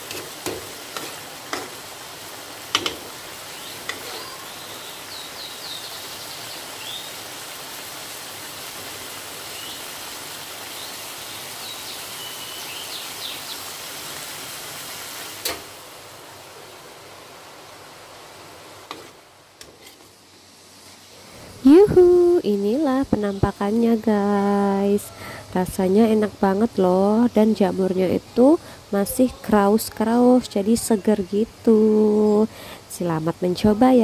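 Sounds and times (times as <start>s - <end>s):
sauce sizzling in a wok: 0.0s - 34.0s.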